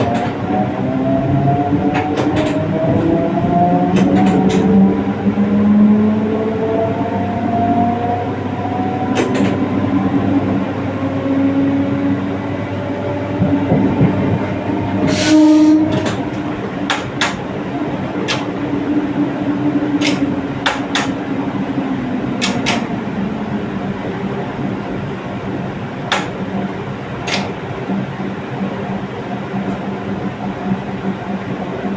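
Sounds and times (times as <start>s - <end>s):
wheels clicking over rail joints: 0.0s - 6.2s, 7.2s - 11.1s, 11.8s - 30.1s
train rumble: 0.0s - 31.9s.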